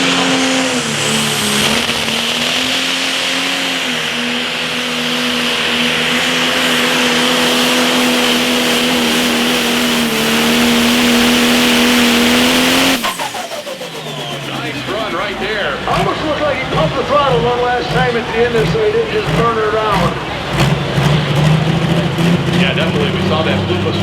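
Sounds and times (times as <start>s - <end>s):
diesel tractor engine at full throttle: 0.0s - 24.0s.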